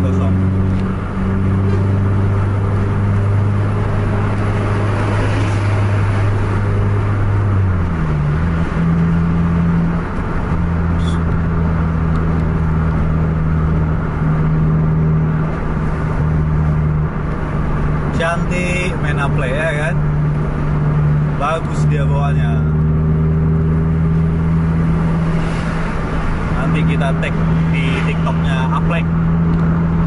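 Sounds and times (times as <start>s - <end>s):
car engine running: 0.0s - 30.0s
tyre and road noise: 0.0s - 30.0s.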